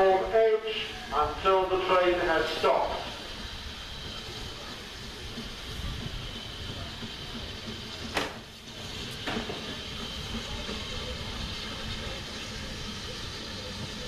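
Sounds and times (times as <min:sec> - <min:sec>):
steam hissing: 0:00.0 - 0:14.0
train rumble: 0:00.0 - 0:14.0.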